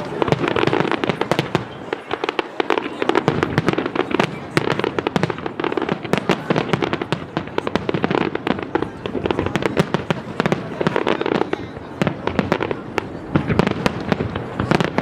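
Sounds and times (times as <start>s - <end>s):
fireworks exploding and crackling: 0.0s - 15.0s.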